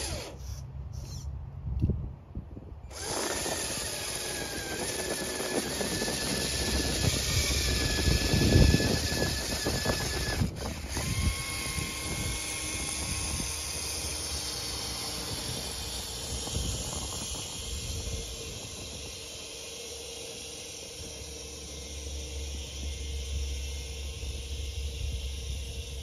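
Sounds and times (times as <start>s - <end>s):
electric motor whining: 0.0s - 1.3s, 2.9s - 26.0s.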